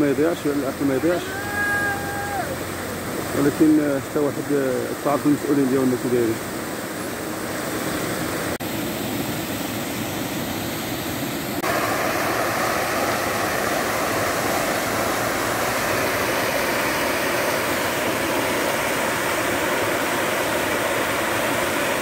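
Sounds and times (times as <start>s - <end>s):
water rushing from burst pipe: 0.0s - 22.0s.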